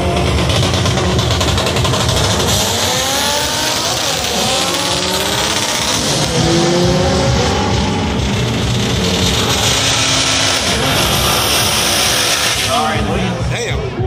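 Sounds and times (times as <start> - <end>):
race car engines revving: 0.0 - 14.0
track noise: 0.0 - 14.0.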